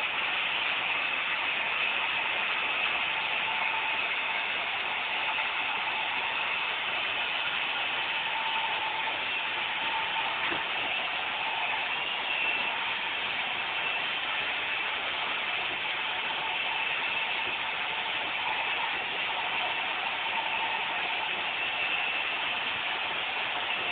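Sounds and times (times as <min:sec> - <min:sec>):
robot vacuum whirring: 0:00.8 - 0:23.9.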